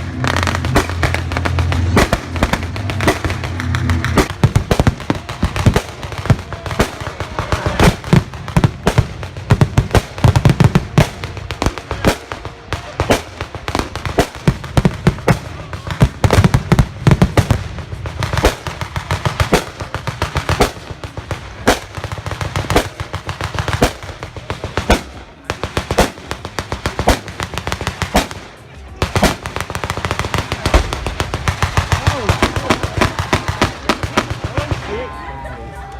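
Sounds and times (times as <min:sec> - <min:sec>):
gunfire and pyrotechnic bangs: 0:00.0 - 0:35.1.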